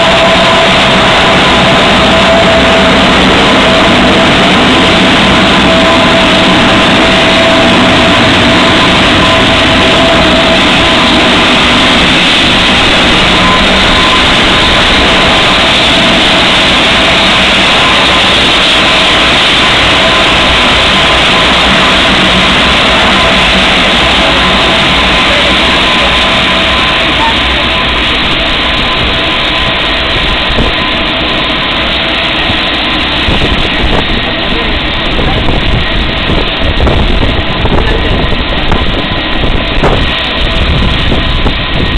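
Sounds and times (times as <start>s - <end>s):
high engine whine: 0.0s - 41.9s
turboprop engines running: 0.0s - 41.9s.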